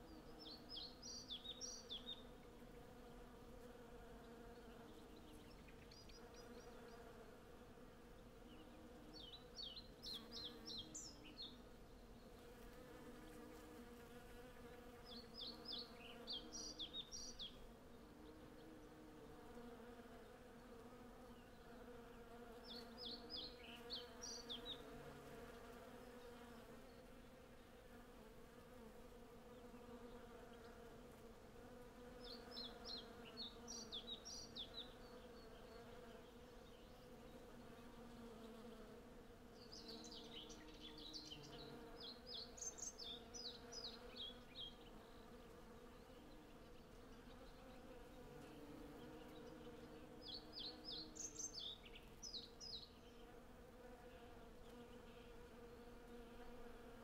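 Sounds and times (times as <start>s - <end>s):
bees humming: 0.0s - 27.2s, 28.2s - 57.0s.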